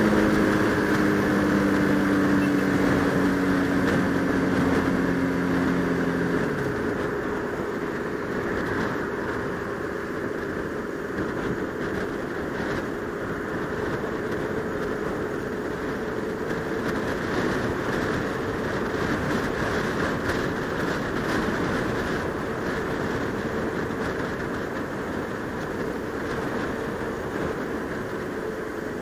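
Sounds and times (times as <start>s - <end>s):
motorcycle engine cruising: 0.0s - 29.0s
wind rush: 0.0s - 29.0s.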